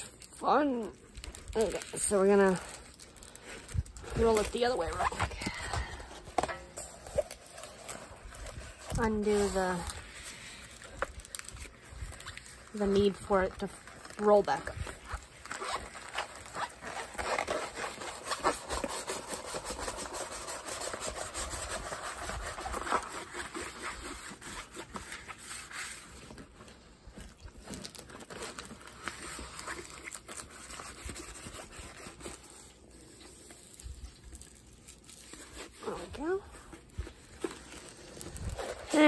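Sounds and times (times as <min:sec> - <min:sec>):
plastic film rustling and crinkling: 0:00.0 - 0:39.0.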